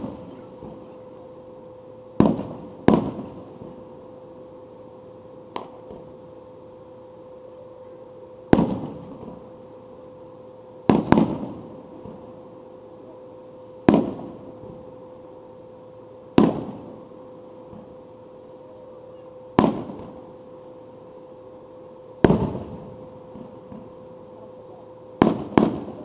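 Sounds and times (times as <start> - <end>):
faint steady tone: 0.0 - 26.0.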